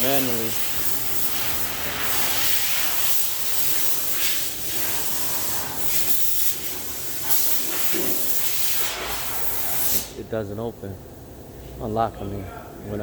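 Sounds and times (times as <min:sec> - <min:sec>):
steady airy hiss: 0:00.0 - 0:12.2.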